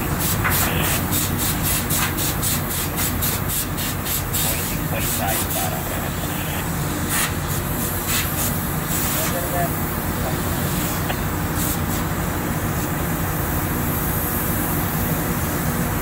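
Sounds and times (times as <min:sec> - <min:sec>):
low machinery hum: 0:00.0 - 0:16.0.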